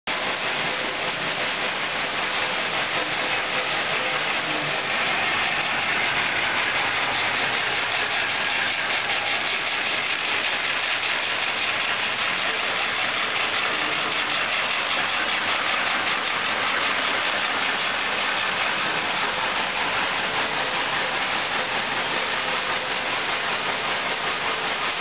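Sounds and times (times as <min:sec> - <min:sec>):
processing machinery running: 0:00.1 - 0:25.0.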